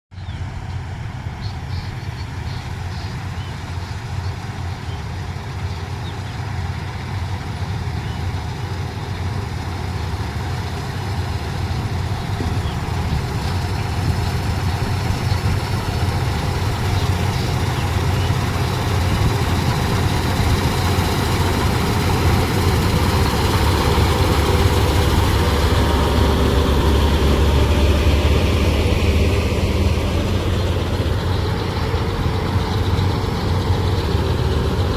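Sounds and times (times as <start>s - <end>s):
combine harvester diesel engine: 0.2s - 34.9s.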